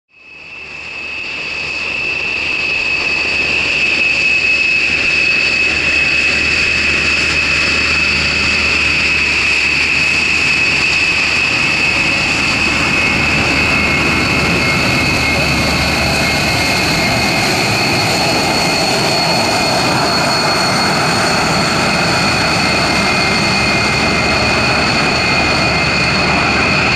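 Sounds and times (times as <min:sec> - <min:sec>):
jet engines whining: 0:00.2 - 0:26.9
low jet engine rumble: 0:00.2 - 0:26.9.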